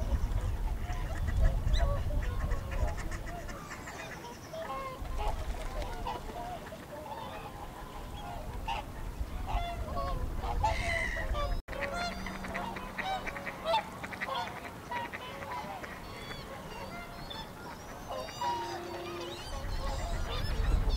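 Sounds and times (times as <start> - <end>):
geese and swans honking: 0.0 - 20.9
wind buffeting microphone: 0.0 - 20.9.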